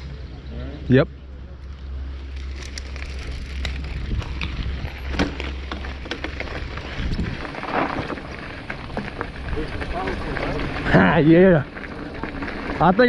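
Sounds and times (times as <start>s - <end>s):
ground crunching and rattling: 1.6s - 13.0s
wind rumble on microphone: 2.3s - 13.0s.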